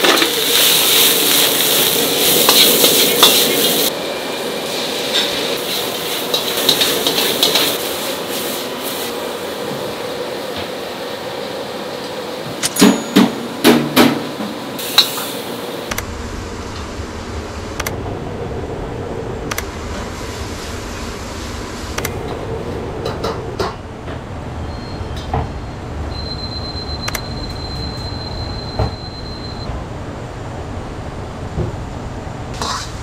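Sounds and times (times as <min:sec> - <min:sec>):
ventilation hum: 0:00.0 - 0:33.0.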